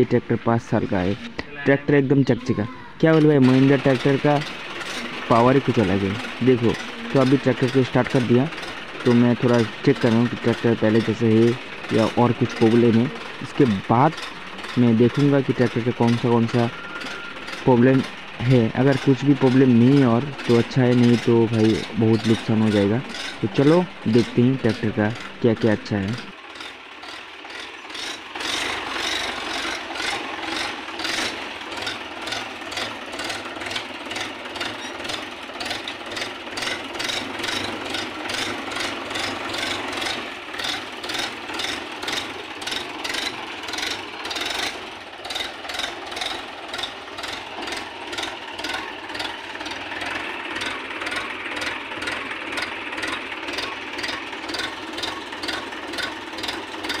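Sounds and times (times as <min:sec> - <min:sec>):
tractor diesel engine clattering: 0:00.0 - 0:57.0.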